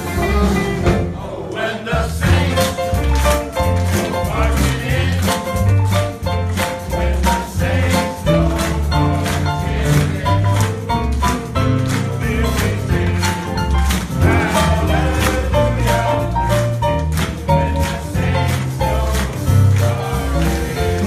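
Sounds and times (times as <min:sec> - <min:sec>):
swing band music with singing: 0:00.0 - 0:21.0.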